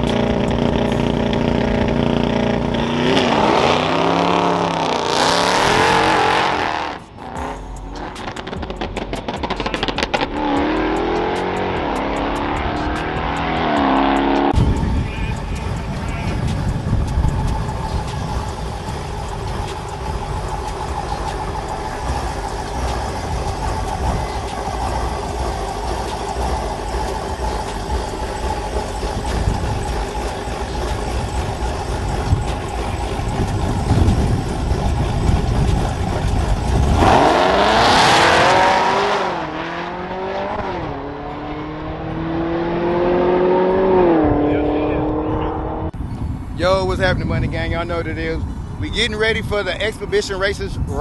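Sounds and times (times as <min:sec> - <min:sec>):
car accelerating with gear changes: 0:00.0 - 0:46.0
car engine idling: 0:00.0 - 0:51.0.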